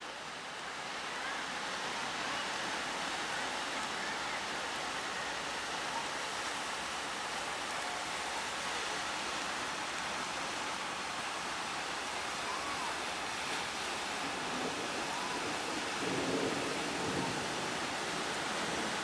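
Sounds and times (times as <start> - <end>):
sea surf and breaking waves: 0.0 - 19.0.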